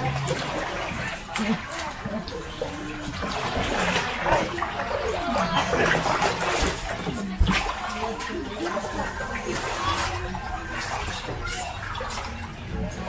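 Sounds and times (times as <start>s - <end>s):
feet splashing through water: 0.0s - 13.0s.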